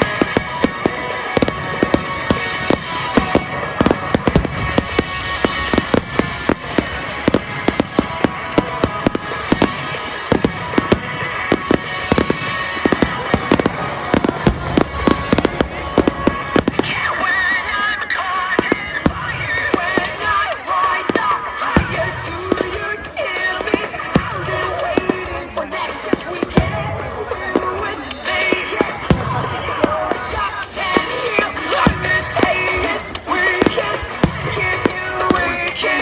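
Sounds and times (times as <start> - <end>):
fireworks bangs and crackles: 0.0 - 36.0
music with long held notes: 0.0 - 36.0.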